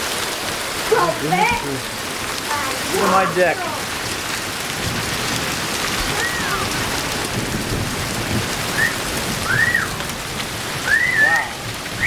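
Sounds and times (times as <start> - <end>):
hailstones pelting a deck: 0.0 - 12.0.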